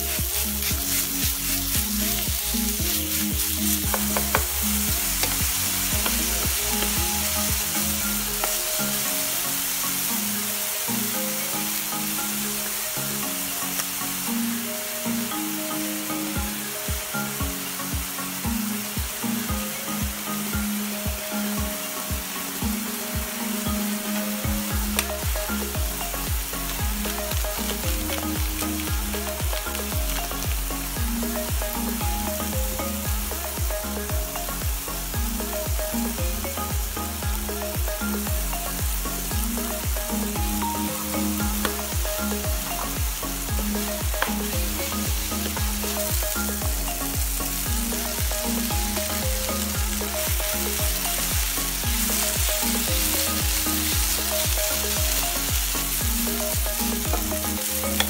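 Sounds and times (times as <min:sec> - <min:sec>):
background music with steady beat: 0:00.0 - 0:58.0
meat sizzling in a pan: 0:00.0 - 0:58.0.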